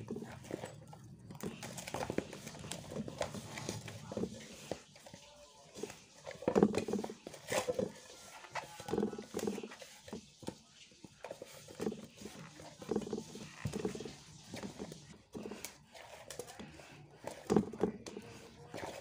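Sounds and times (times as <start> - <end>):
dough squelching: 0.0 - 19.0.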